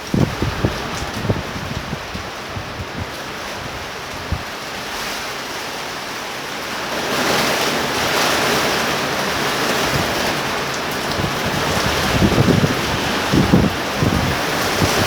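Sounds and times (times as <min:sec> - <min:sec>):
gusting wind: 0:00.0 - 0:15.0
torrential rain hissing: 0:00.0 - 0:15.0.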